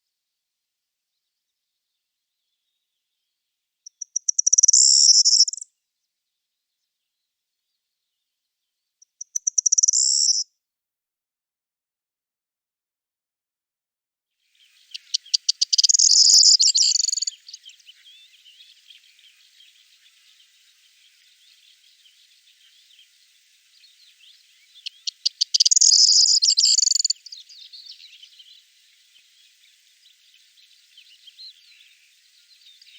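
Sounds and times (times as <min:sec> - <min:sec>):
faint bird chirps: 0:01.0 - 0:10.5, 0:14.4 - 0:32.9.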